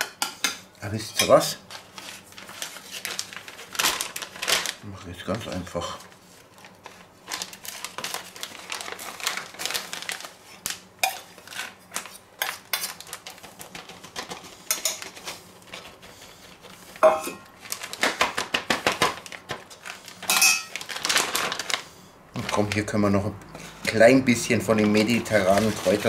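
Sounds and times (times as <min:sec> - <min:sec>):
plastic bag crinkling: 0:01.6 - 0:26.0.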